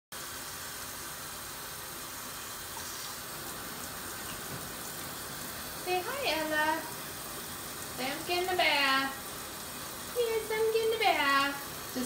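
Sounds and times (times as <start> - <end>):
shower spray hissing on dog: 0.2 - 12.0.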